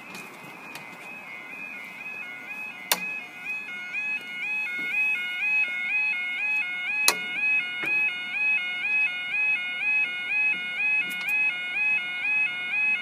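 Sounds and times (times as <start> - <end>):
two-tone electronic warble alarm: 0.0 - 13.0.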